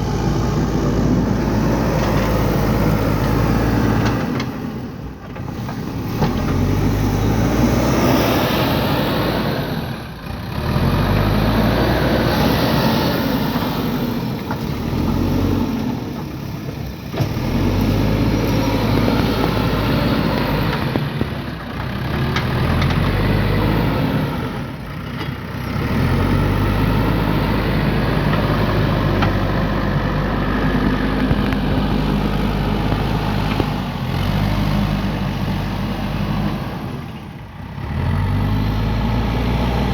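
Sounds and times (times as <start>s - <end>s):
backhoe diesel engine under load: 0.0s - 39.9s.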